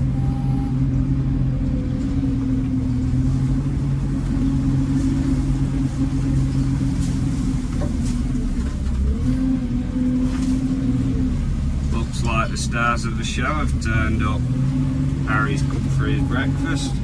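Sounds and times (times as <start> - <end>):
farm vehicle engine humming: 0.0 - 17.0.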